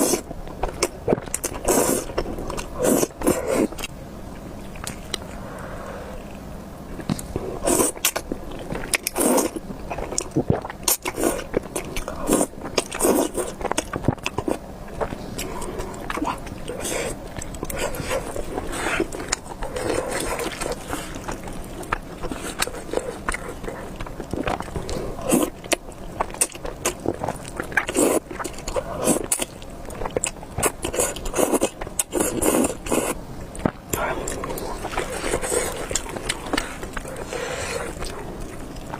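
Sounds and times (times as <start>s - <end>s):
chewing: 0.0s - 3.9s, 4.6s - 5.4s, 6.2s - 38.9s.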